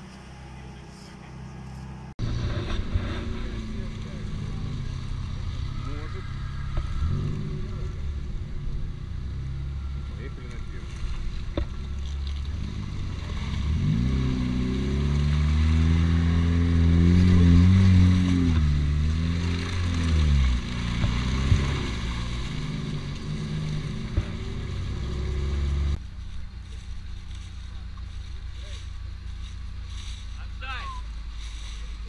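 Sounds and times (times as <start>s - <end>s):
car engine revving under load: 0.0s - 30.4s.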